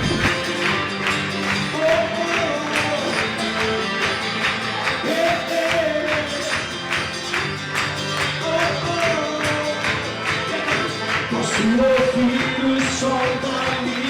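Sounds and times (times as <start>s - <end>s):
band playing worship music: 0.0s - 14.0s.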